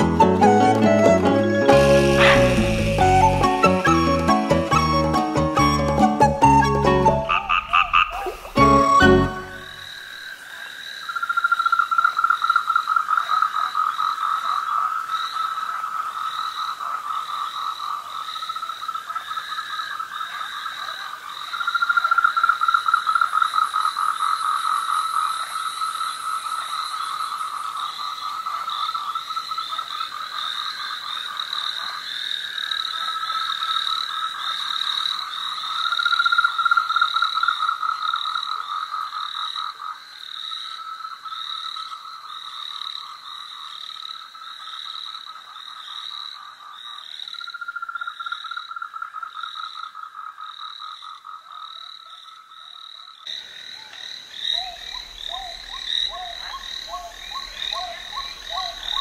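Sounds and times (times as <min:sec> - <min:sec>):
frogs croaking: 0:07.2 - 0:59.0.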